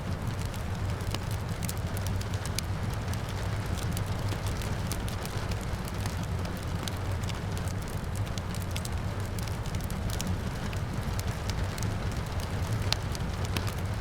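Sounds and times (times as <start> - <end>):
rain falling: 0.0 - 14.0
wood fire crackling and popping: 0.0 - 14.0.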